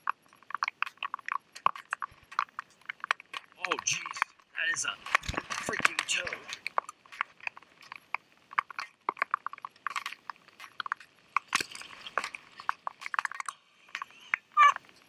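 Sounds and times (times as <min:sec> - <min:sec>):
sharp clicks and taps: 0:00.0 - 0:14.8.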